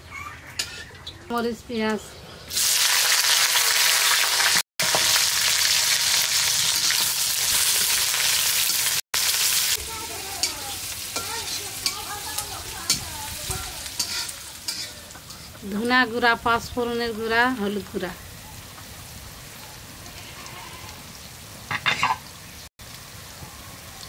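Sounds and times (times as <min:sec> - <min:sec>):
food sizzling in hot oil: 0:02.5 - 0:24.0.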